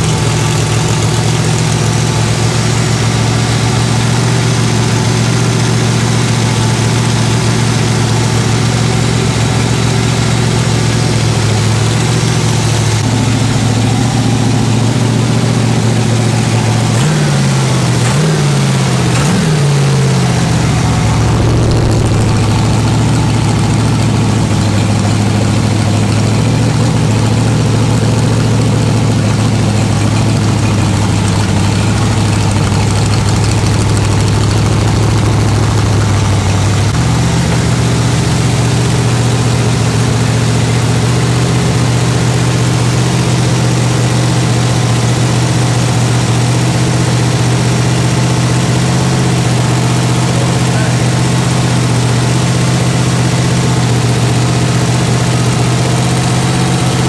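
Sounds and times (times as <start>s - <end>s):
engine running and revving: 0.0s - 57.0s.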